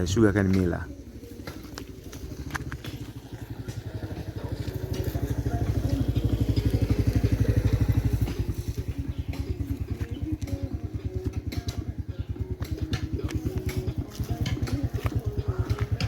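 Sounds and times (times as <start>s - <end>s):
tractor diesel engine labouring: 0.0s - 16.0s.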